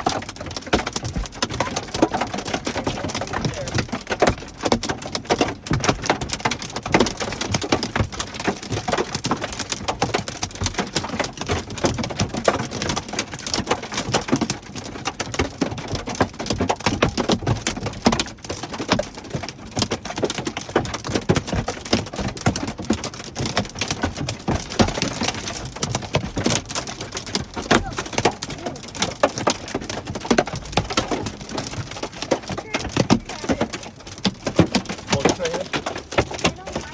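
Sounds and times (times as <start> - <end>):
hailstones and rain striking surfaces: 0.0 - 36.9.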